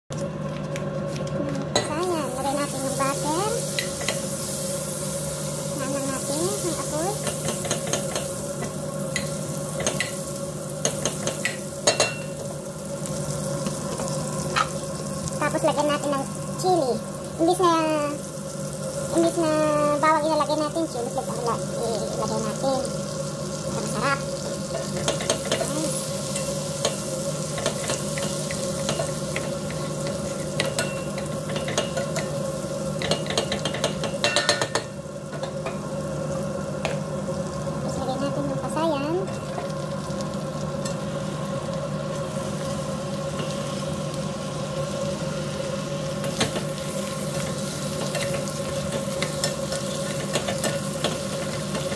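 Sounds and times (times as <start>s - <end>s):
butter sizzling in a pot: 0.2s - 51.9s
steady hum: 0.2s - 51.9s.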